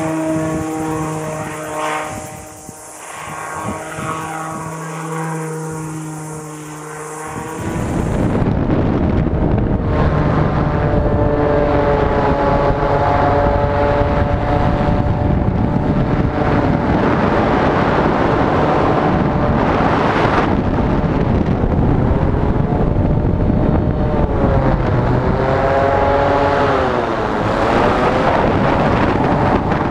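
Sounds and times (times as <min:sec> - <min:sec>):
propeller engine running hard: 0:00.0 - 0:29.9
wind on microphone: 0:00.0 - 0:29.9.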